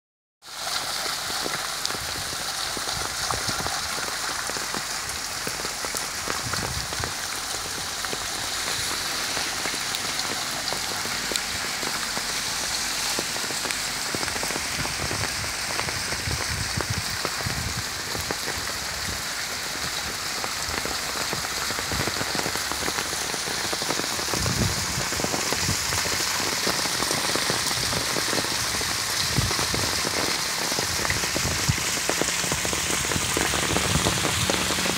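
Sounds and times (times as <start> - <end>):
water gushing from a pipe: 0.4 - 34.9
water splashing onto stones: 0.4 - 34.9.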